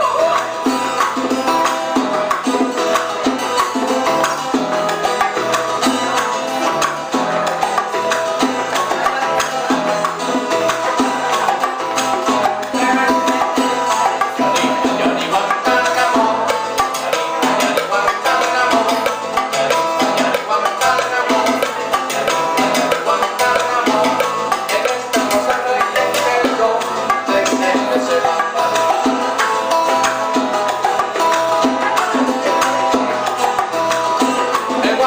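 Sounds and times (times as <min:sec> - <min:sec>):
hand percussion beat: 0:00.0 - 0:35.0
repeating bass line: 0:00.0 - 0:35.0
salsa band playing: 0:00.0 - 0:35.0.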